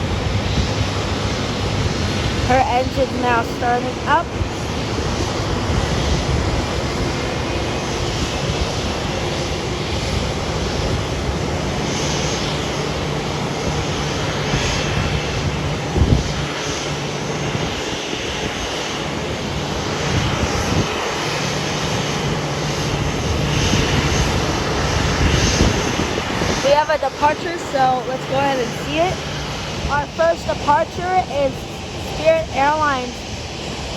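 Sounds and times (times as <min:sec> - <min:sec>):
jet engine roaring: 0:00.0 - 0:33.9.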